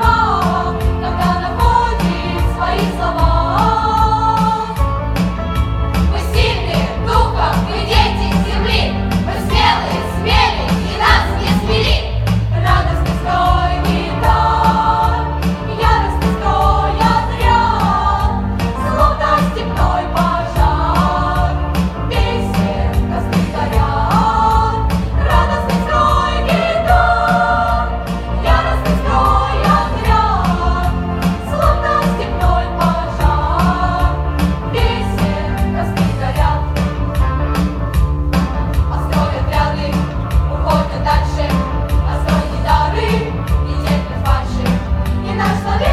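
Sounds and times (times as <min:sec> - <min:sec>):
children's choir singing: 0:00.0 - 0:04.8, 0:06.0 - 0:37.0, 0:38.8 - 0:45.9
instrumental accompaniment with beat: 0:00.0 - 0:45.9.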